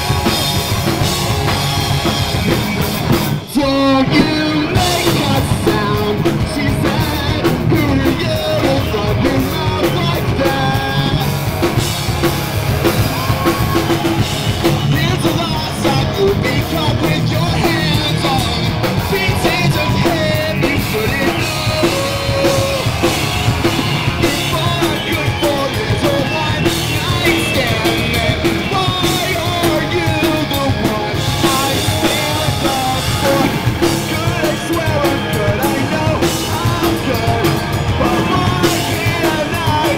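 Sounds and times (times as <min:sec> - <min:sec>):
live rock band with vocals: 0:00.0 - 0:39.9.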